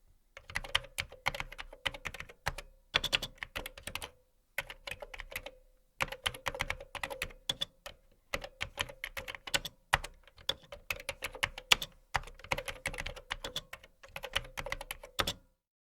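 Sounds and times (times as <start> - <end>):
typing on keyboard: 0.4 - 15.5.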